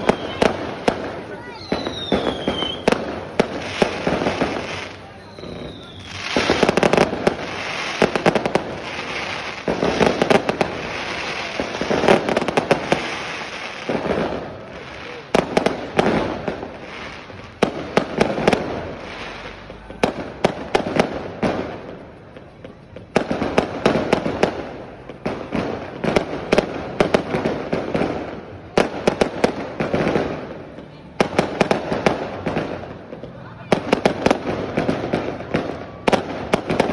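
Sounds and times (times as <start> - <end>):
fireworks bangs and crackling: 0.0 - 36.9.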